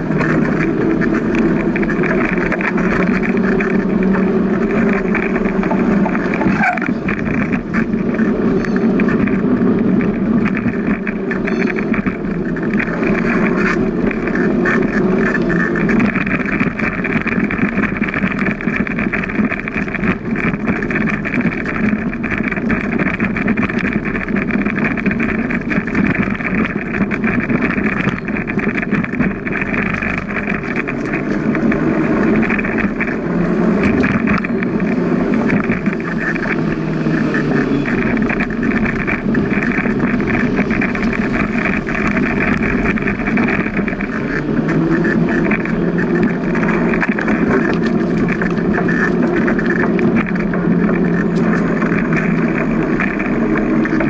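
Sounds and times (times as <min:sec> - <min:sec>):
rushing noise of bicycle riding: 0:00.0 - 0:54.0.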